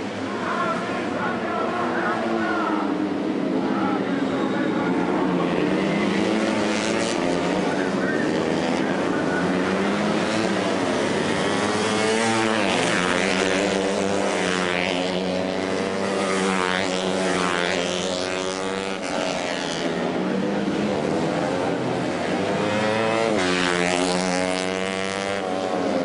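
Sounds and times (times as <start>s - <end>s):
racing motorcycle engines: 0.0s - 26.0s.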